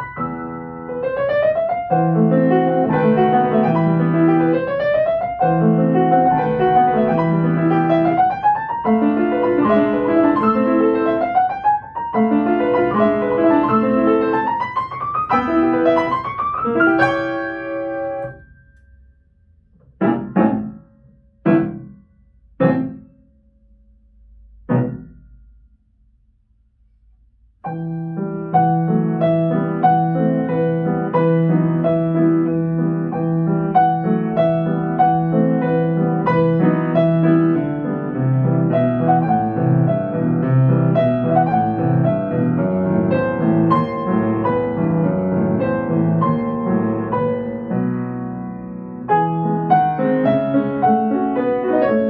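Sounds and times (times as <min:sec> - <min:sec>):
grand piano playing: 0:00.0 - 0:19.0, 0:19.6 - 0:23.2, 0:27.6 - 0:52.0.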